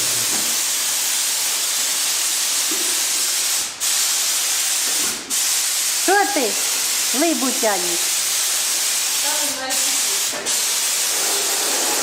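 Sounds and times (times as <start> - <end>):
paint spray gun hissing: 0.0 - 12.0.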